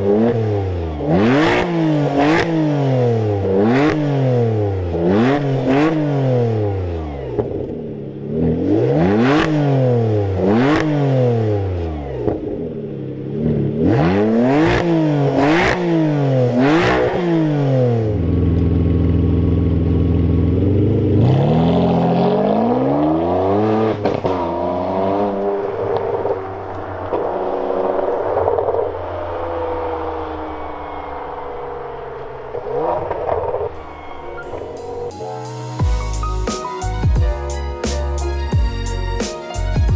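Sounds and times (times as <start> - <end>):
car engine revving: 0.0 - 35.3.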